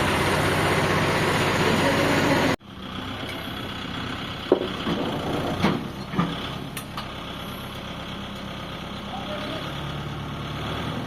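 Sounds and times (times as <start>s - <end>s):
faint steady engine hum: 0.0s - 10.6s
loud farm machinery engine: 0.0s - 11.0s.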